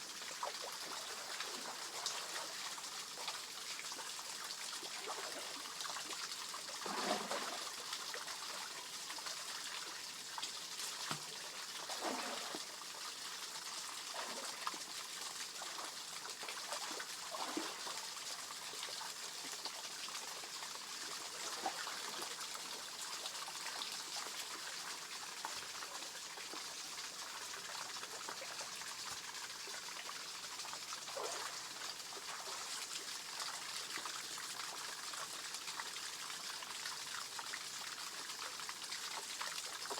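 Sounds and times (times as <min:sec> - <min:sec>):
small waterfall trickling: 0:00.0 - 0:39.9.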